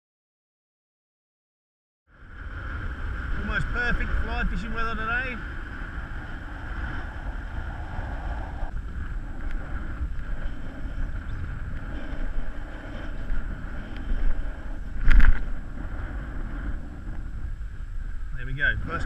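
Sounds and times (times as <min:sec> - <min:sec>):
wind buffeting microphone: 0:02.1 - 0:19.0.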